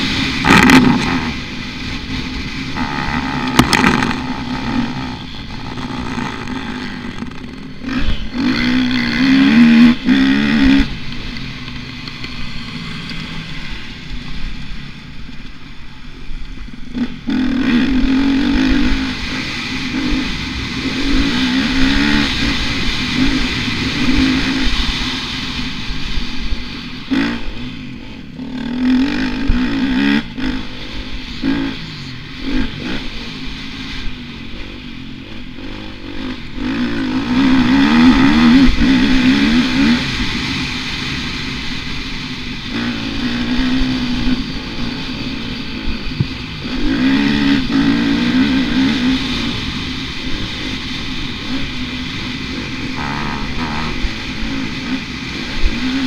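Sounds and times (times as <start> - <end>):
motocross bike engine revving: 0.0 - 15.0, 16.7 - 56.0.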